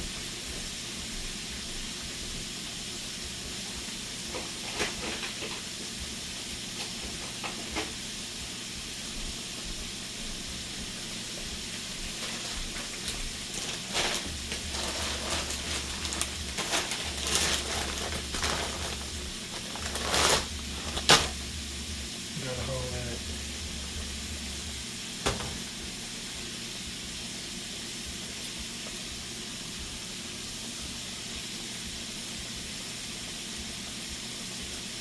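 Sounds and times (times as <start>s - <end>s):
food frying in hot oil: 0.0s - 35.0s.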